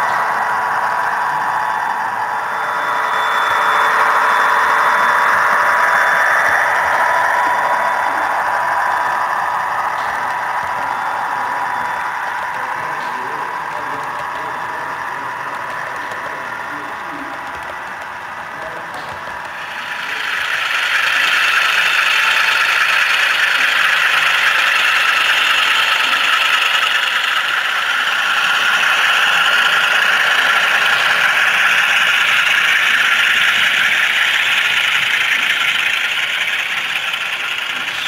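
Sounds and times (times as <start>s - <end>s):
model train running: 0.0s - 38.0s.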